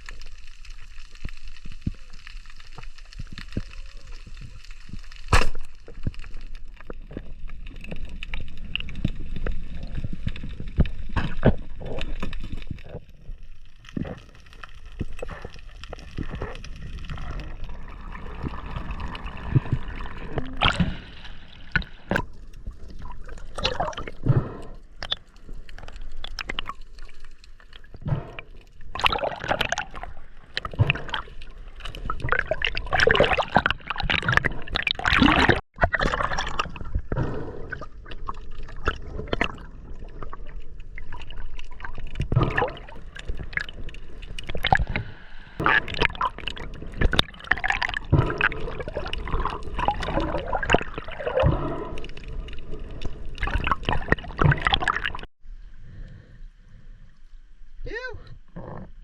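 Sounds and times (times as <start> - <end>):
water sloshing and gurgling: 0.0 - 57.8.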